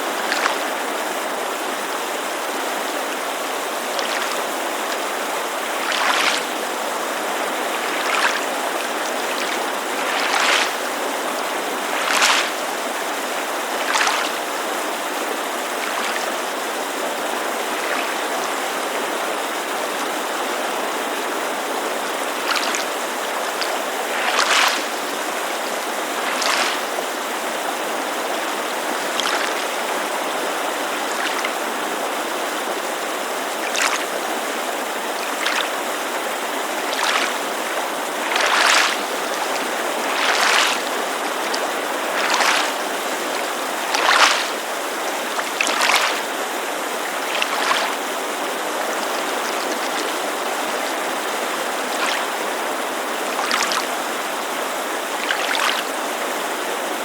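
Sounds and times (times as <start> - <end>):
creek rushing: 0.0 - 57.0
small waves lapping on shore: 0.0 - 57.0.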